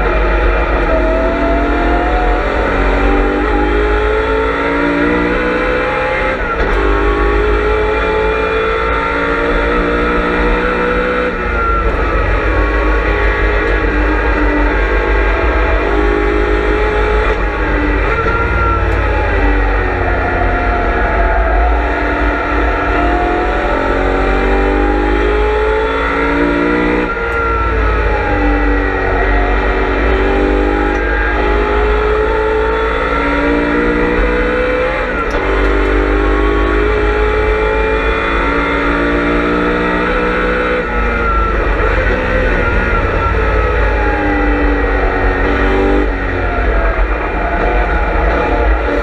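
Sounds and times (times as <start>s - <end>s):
race car engine at speed: 0.0s - 49.0s.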